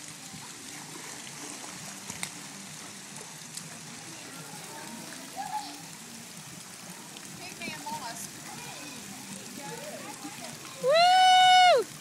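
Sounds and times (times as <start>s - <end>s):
water splashing in pool: 0.0s - 12.0s.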